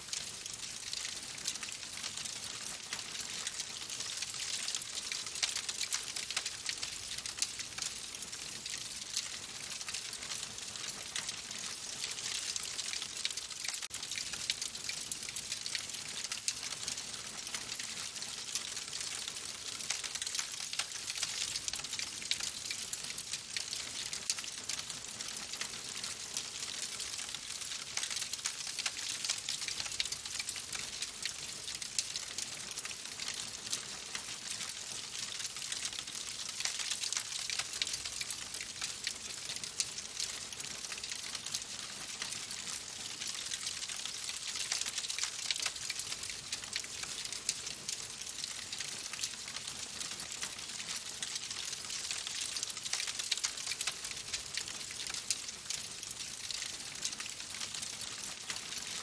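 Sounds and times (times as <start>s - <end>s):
wood fire crackling: 0.1s - 57.4s.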